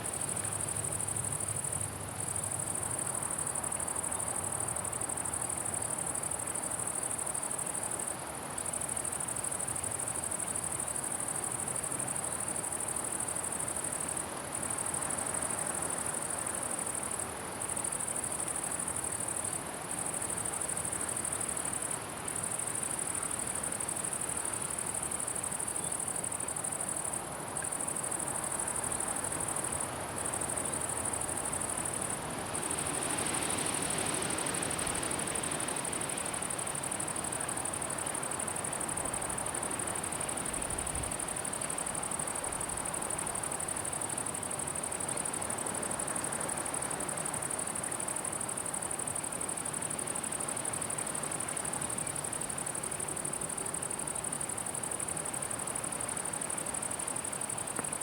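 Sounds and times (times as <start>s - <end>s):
faint background hiss: 0.0s - 58.0s.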